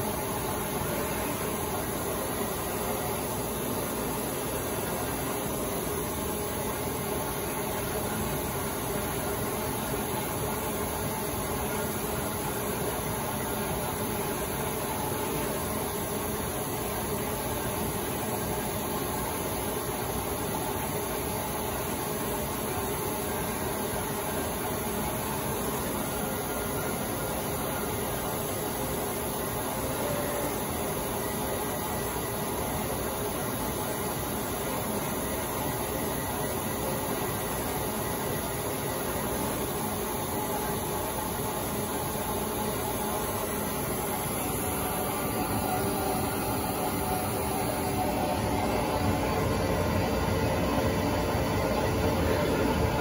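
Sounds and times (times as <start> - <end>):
vacuum pump running: 0.0 - 53.0.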